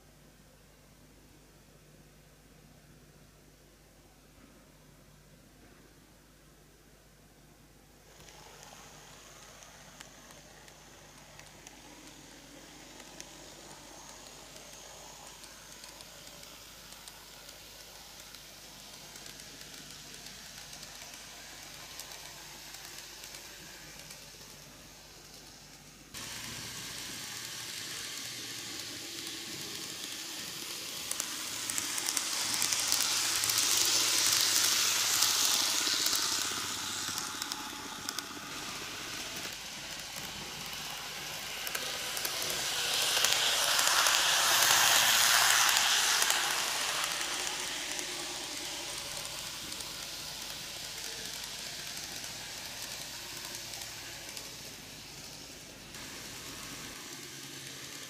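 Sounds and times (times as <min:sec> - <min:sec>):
model train running on track: 0:08.0 - 0:58.0.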